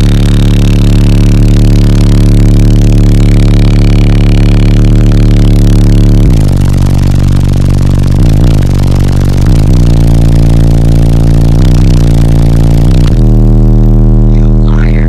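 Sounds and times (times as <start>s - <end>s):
loud bass-heavy music: 0.0s - 15.0s
vehicle body rattling and buzzing: 0.0s - 15.0s.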